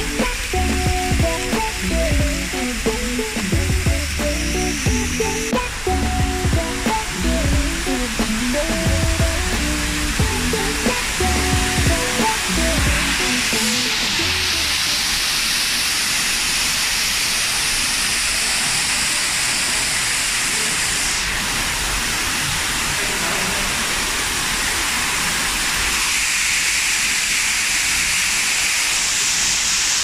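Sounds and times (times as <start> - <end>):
waterfall splashing on rock: 0.0 - 30.0.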